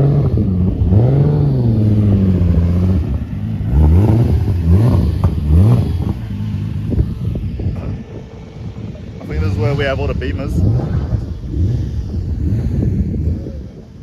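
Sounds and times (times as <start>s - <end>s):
car engine idling: 0.0s - 14.0s
car engine revving: 0.0s - 14.0s.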